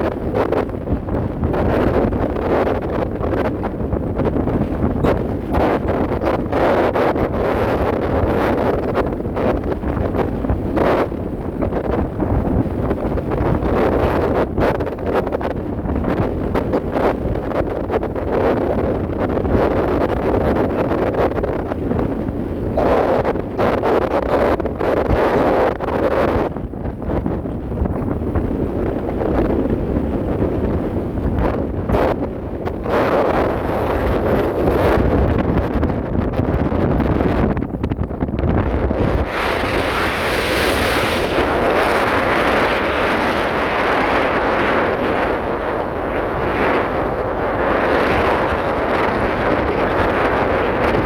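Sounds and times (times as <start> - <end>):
wind and sea rushing: 0.0 - 51.0
wind buffeting microphone: 0.0 - 51.0.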